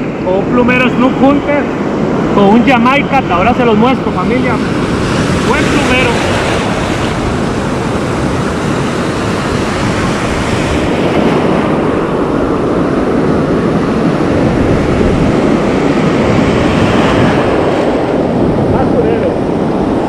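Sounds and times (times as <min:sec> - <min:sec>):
ocean surf rushing: 0:00.0 - 0:20.0.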